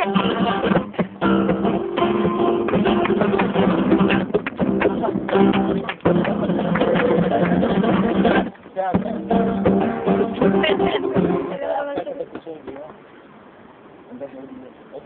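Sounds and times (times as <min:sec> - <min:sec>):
flamenco guitar strumming: 0:00.0 - 0:12.8.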